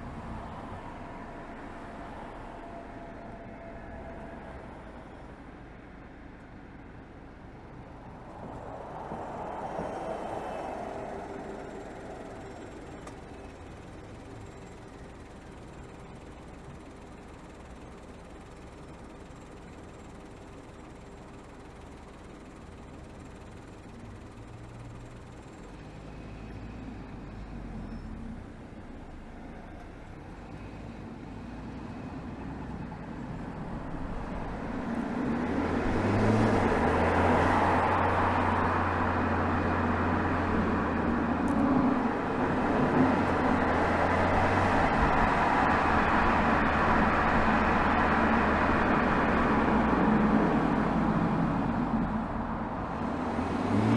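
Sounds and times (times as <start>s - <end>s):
car exhaust drone: 0.0s - 53.9s
road and wind noise: 0.0s - 53.9s.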